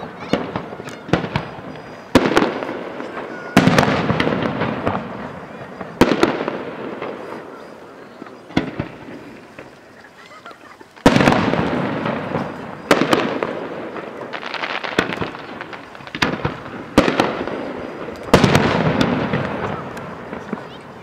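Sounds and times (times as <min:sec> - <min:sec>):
fireworks bangs with crackling: 0:00.0 - 0:21.0.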